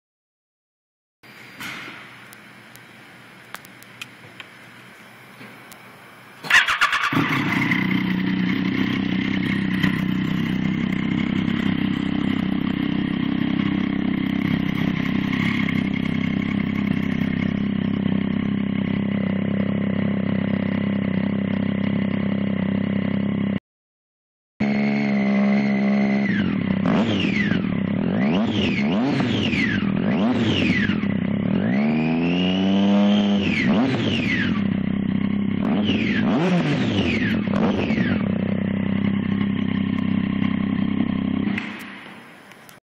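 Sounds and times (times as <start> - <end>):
motorcycle engine idling and revving: 6.4 - 23.6, 24.6 - 42.8.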